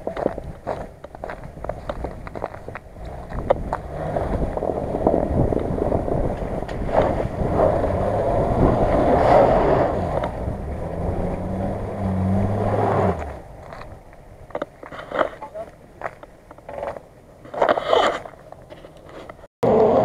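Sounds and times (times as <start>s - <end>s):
car engine driving: 0.0s - 20.0s.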